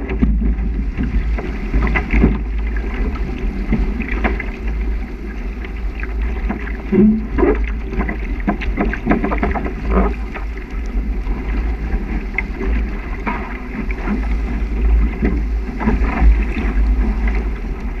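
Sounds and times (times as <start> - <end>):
waves splashing against a hull: 0.0 - 18.0
wind rumble on microphone: 0.0 - 18.0.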